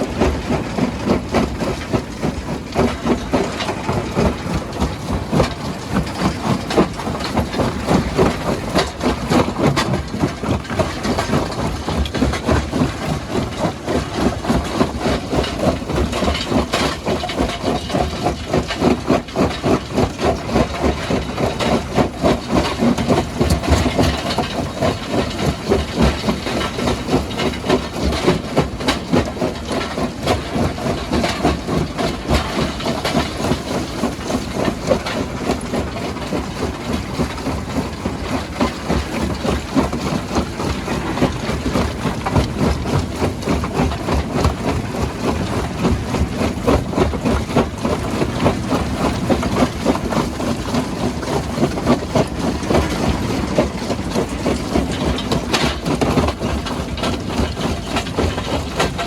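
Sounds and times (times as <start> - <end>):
rock-crushing machinery pulsing: 0.0 - 59.0.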